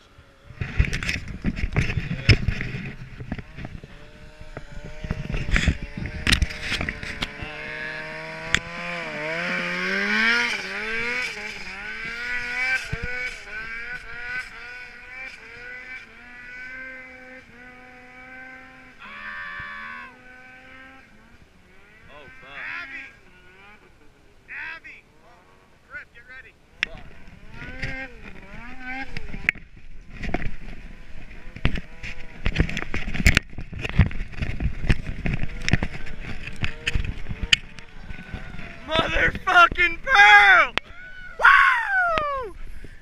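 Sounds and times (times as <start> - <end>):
snowmobile engine revving: 0.0 - 43.0.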